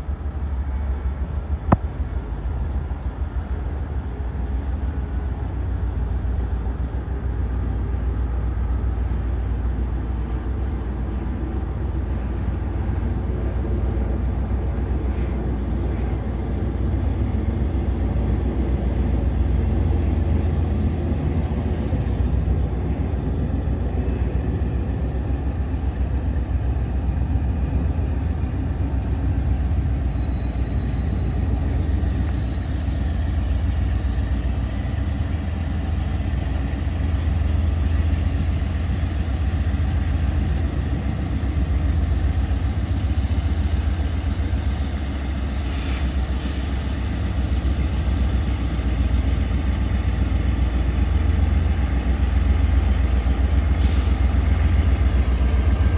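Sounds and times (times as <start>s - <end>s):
train passing rumble: 0.0s - 55.9s.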